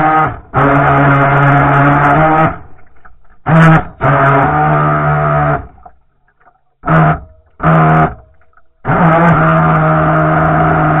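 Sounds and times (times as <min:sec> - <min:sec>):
toy boat motor running in bursts: 0:00.0 - 0:02.7, 0:03.4 - 0:05.8, 0:06.8 - 0:11.0.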